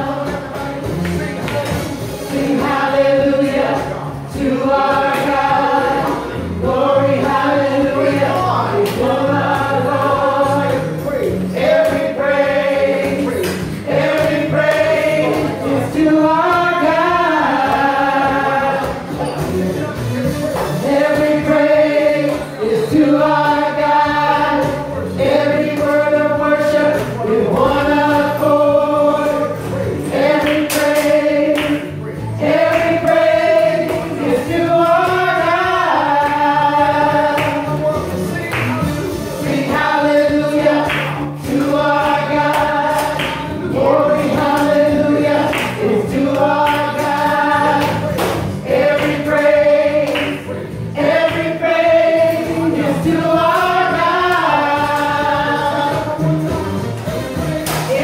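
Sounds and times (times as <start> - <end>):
group singing a gospel song: 0.0 - 58.0.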